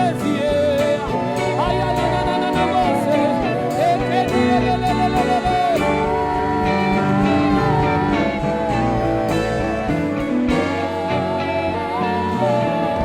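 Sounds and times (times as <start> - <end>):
bass beat: 0.0 - 13.0
person singing melismatic line: 0.0 - 13.0
sustained keyboard chords: 0.0 - 13.0.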